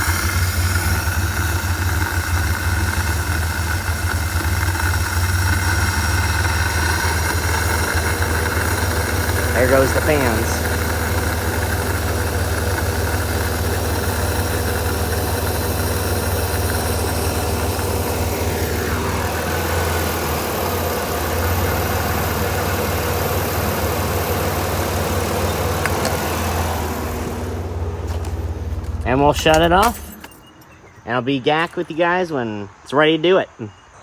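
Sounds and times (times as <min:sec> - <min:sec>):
radiator cooling fans running: 0:00.0 - 0:32.2
car engine idling: 0:00.0 - 0:32.5.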